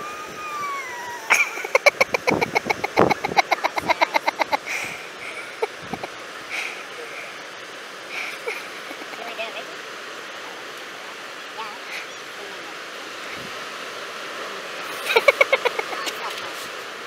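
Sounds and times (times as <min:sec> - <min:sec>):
surf: 0:00.0 - 0:17.0
wind hiss: 0:00.0 - 0:17.0.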